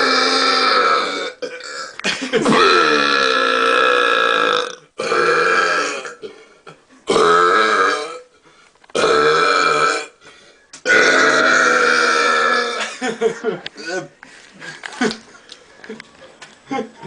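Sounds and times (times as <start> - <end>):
men burping loudly: 0.0 - 10.2, 10.8 - 15.2.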